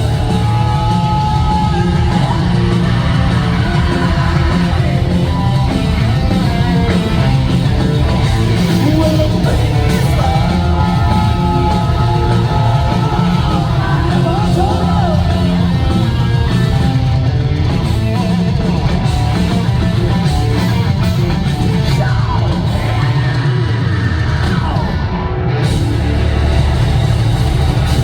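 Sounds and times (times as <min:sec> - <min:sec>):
electric guitar: 0:00.0 - 0:28.0
live rock band playing: 0:00.0 - 0:28.0.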